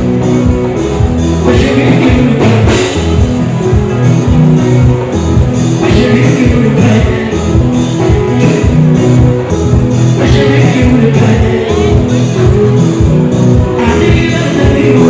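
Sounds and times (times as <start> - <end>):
lead singer singing: 0.0 - 15.0
live band music: 0.0 - 15.0.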